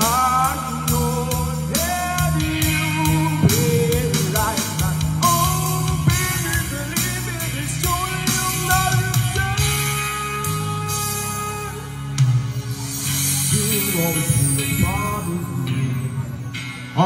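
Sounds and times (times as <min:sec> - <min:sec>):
man singing into microphone: 0:00.0 - 0:12.0, 0:13.4 - 0:17.0
guitar-led accompaniment: 0:00.0 - 0:17.0.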